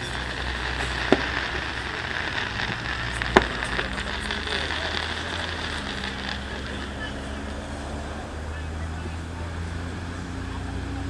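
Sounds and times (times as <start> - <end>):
fireworks bangs: 0.0 - 11.0
steady hiss: 0.0 - 11.0.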